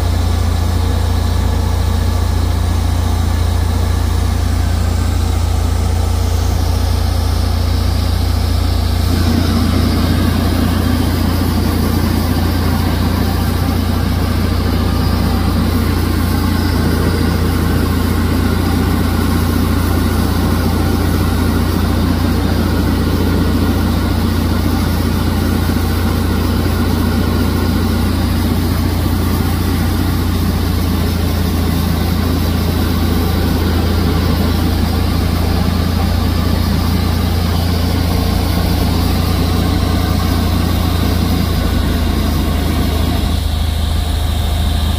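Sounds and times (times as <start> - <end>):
propeller plane engine droning: 0.0 - 44.9
rushing air: 4.4 - 43.7.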